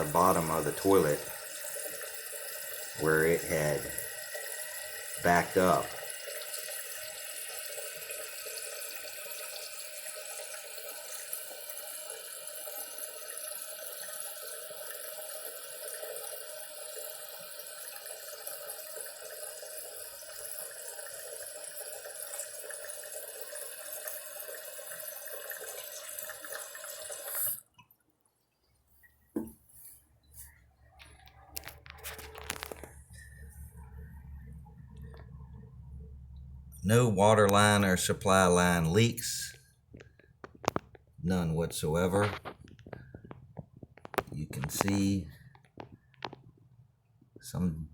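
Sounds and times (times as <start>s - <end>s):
toilet refilling with water: 0.0s - 46.5s.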